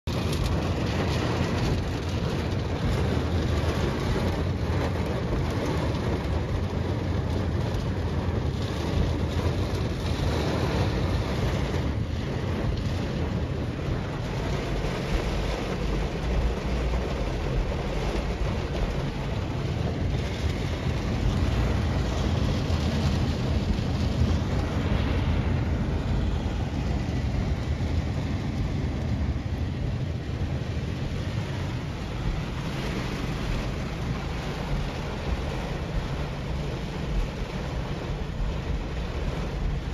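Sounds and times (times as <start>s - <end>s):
heavy rain on a car: 0.0s - 39.9s.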